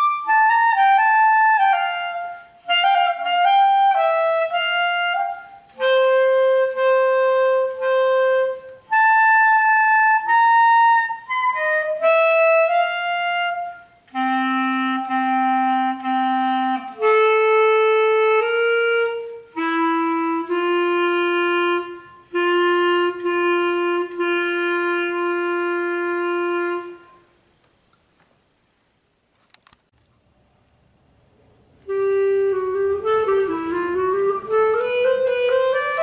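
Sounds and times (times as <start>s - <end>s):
solo clarinet playing: 0.0s - 27.4s, 31.8s - 36.0s.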